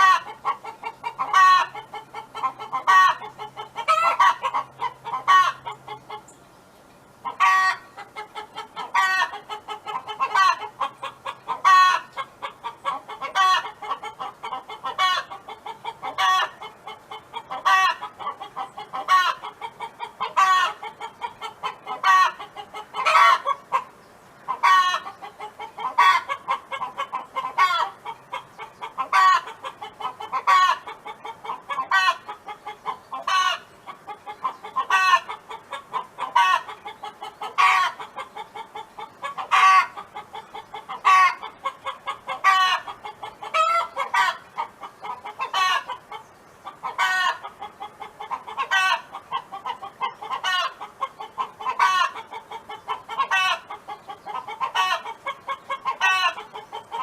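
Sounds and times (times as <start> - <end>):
hen clucking: 0.0 - 6.4, 7.2 - 57.0.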